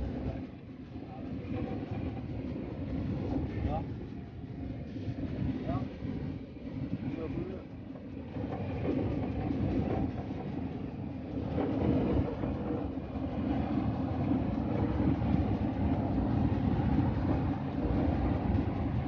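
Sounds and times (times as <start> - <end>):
ship engine rumble: 0.0 - 19.0.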